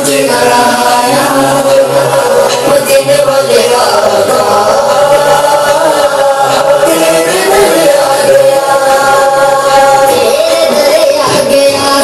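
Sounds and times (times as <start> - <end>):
chanted vocal music through speaker: 0.0 - 12.0.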